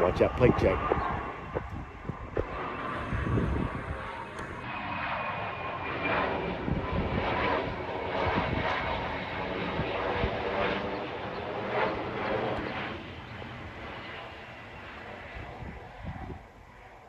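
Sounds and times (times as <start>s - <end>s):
airplane engine drone: 0.0s - 17.0s.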